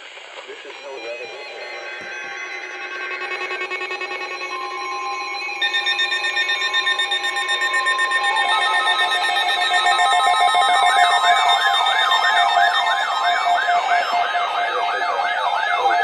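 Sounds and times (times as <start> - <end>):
sweeping siren-like tone: 0.6 - 16.0
pulsing electronic alarm tones: 0.7 - 16.0.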